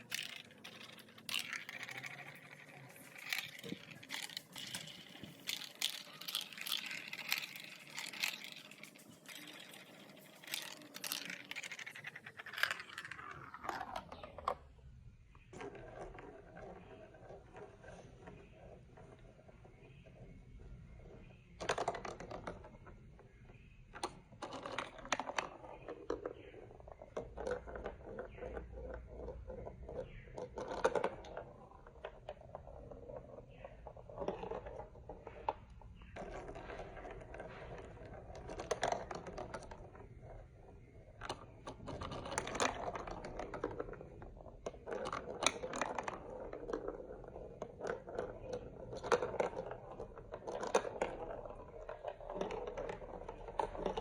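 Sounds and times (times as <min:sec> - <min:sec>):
plastic blocks clicking: 0:00.0 - 0:14.6, 0:21.6 - 0:22.9, 0:23.9 - 0:54.0.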